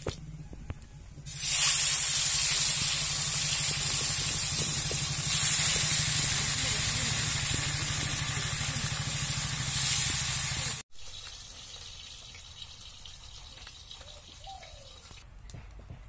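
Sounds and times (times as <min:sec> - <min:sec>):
fish sizzling in oil: 0:01.3 - 0:15.2
oil crackles: 0:01.3 - 0:15.2.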